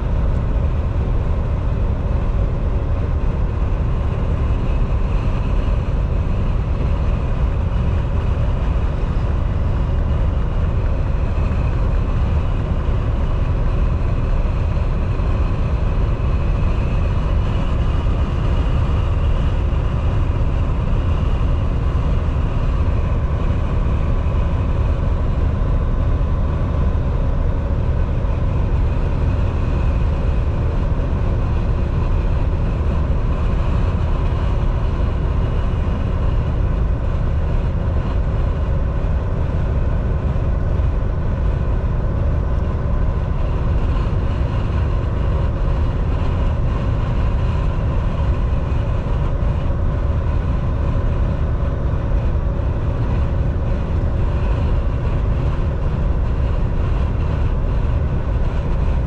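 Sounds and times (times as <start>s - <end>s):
truck engine and road drone: 0.0s - 59.0s.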